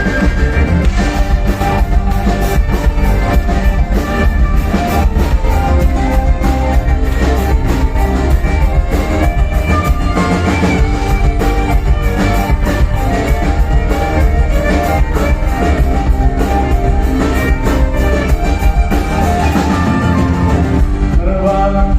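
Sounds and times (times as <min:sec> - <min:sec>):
drum kit steady beat: 0:00.0 - 0:21.9
electric guitar: 0:00.0 - 0:21.9.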